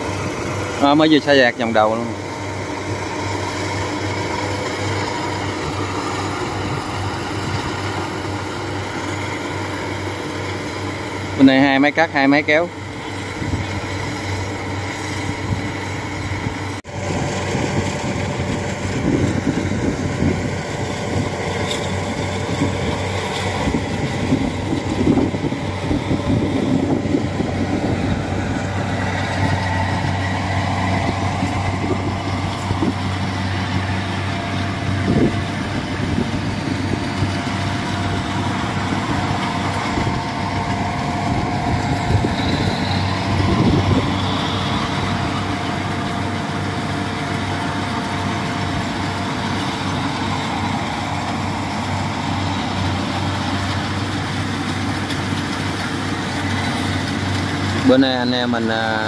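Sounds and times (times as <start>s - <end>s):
harvester engine hum: 0.0s - 59.0s
machinery whine: 0.0s - 59.0s.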